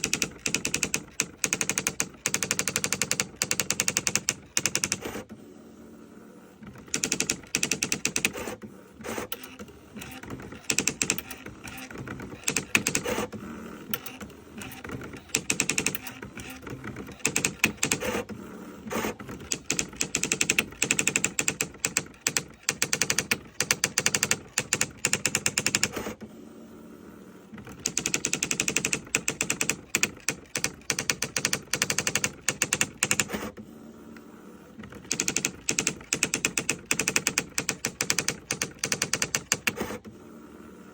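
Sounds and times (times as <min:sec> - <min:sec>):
electronic typewriter printing clicks: 0:00.0 - 0:05.4, 0:06.6 - 0:26.2, 0:27.6 - 0:33.6, 0:34.8 - 0:40.2.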